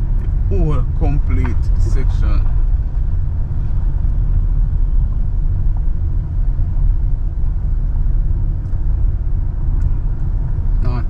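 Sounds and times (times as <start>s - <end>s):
car driving over rough road: 0.0s - 9.8s.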